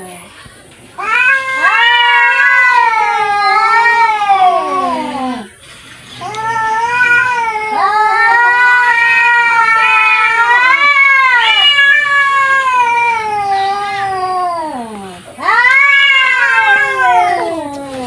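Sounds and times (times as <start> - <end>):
cats yowling: 1.0 - 18.0.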